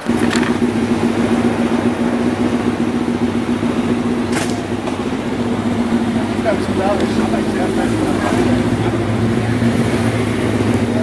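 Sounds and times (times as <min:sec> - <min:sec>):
vee eight engine idling: 0:00.0 - 0:11.0.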